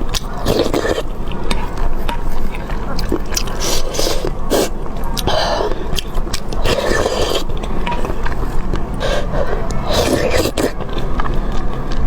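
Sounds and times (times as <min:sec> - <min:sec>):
food being chewed: 0:00.0 - 0:12.0.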